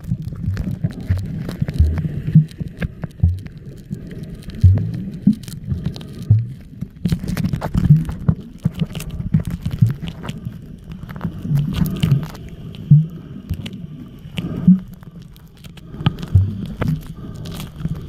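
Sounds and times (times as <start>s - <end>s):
underwater clicks and knocks: 0.0s - 18.0s
underwater rumble of moving water: 0.0s - 18.0s.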